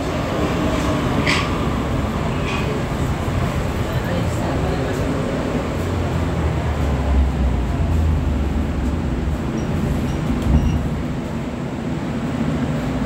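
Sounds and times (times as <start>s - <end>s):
metro train interior rumble: 0.0s - 13.0s.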